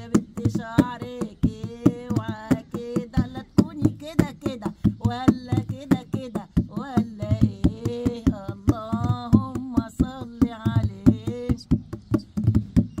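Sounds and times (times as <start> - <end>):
woman singing folk song: 0.0 - 12.3
hand drum beating a folk rhythm: 0.0 - 13.0.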